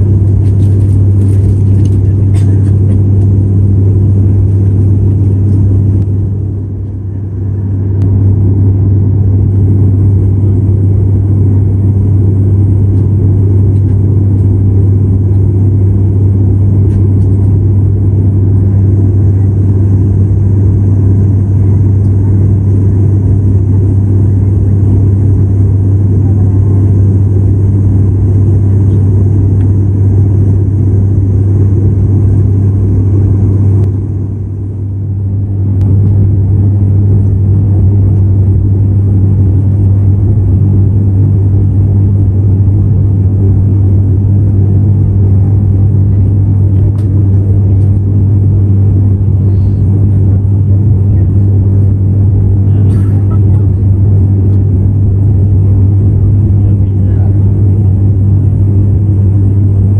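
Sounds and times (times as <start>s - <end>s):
turboprop engine drone in cabin: 0.0s - 59.9s.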